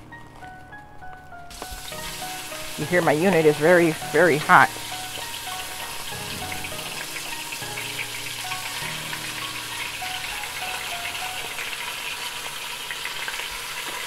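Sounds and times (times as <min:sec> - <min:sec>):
instrumental background music: 0:00.0 - 0:12.2
ground beef sizzling: 0:00.1 - 0:14.0.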